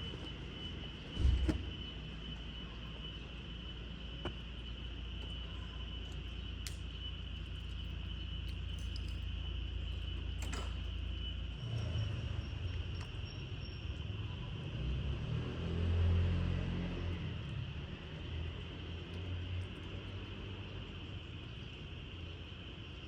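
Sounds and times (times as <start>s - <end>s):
insect chirring: 0.0s - 23.0s.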